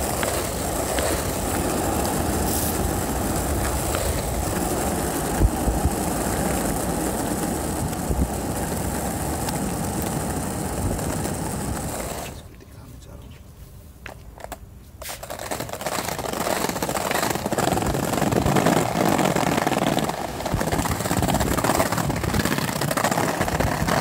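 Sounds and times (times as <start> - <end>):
skateboard thumping over bumps: 0.0 - 12.4, 14.1 - 24.0
skateboard wheels rolling on asphalt: 0.0 - 24.0.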